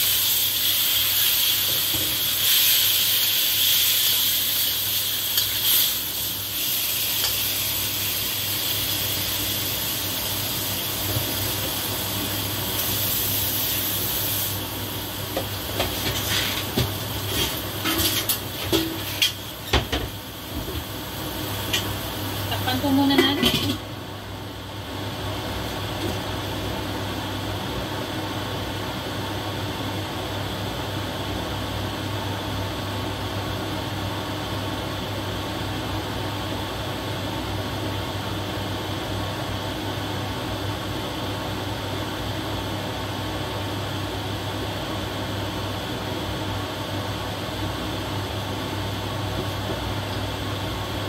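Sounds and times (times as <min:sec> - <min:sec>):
machine hum with hiss: 0:00.0 - 0:51.0.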